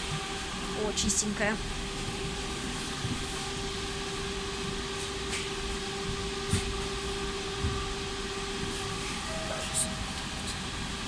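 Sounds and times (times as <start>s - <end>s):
tram electrical hum: 0.0s - 11.0s.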